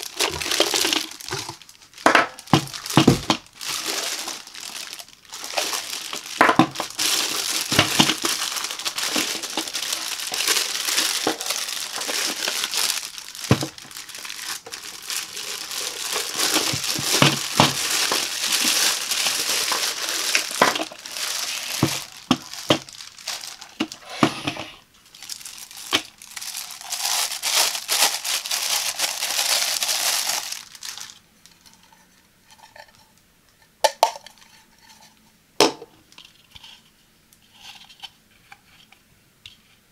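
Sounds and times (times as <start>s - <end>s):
plastic bag crinkling: 0.0s - 32.8s.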